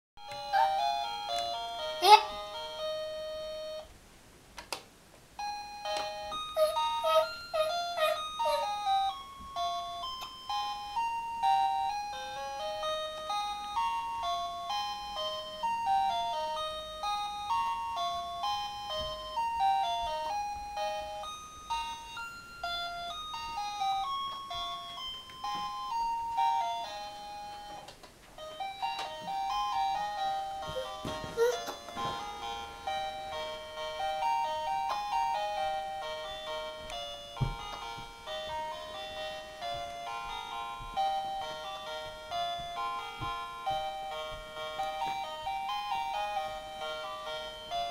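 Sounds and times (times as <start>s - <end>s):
toy playing beeping tune: 0.2s - 3.9s, 5.4s - 47.9s.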